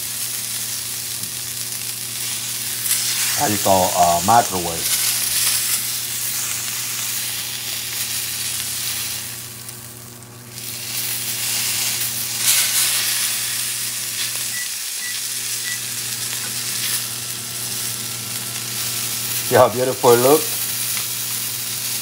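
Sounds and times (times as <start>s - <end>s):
meat sizzling in a hot pan: 0.0s - 22.0s.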